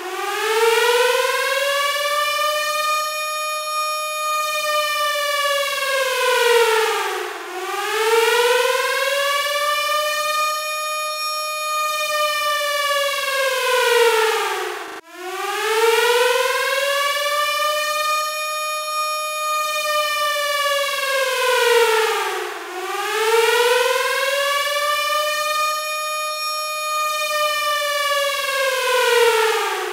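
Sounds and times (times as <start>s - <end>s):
air-raid siren wailing: 0.0s - 29.9s.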